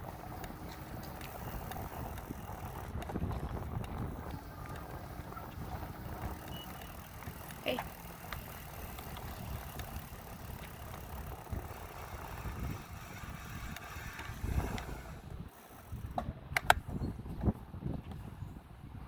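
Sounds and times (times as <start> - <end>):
bike mechanism clicking: 0.0 - 17.4
wind rumbling on microphone: 0.0 - 19.0.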